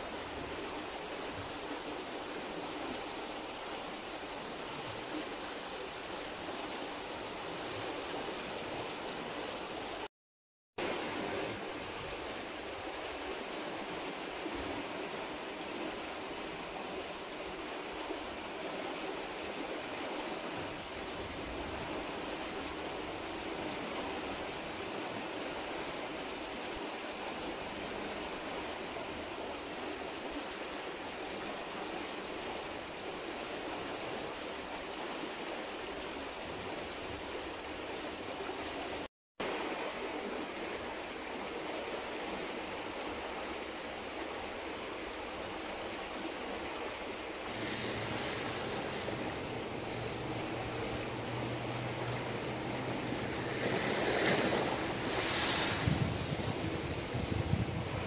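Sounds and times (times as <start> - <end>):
river water rushing: 0.0 - 10.1, 10.8 - 58.0.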